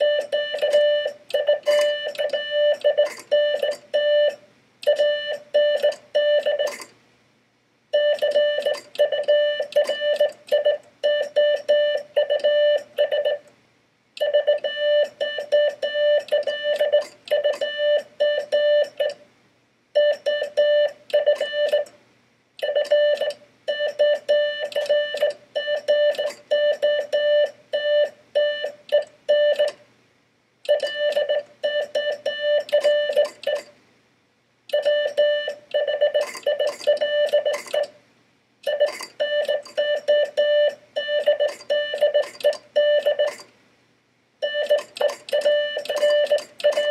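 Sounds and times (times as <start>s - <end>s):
morse code beeps: 0.0s - 6.9s, 8.0s - 13.5s, 14.2s - 19.2s, 20.0s - 21.9s, 22.6s - 29.8s, 30.7s - 33.7s, 34.7s - 37.9s, 38.7s - 43.5s, 44.4s - 46.9s.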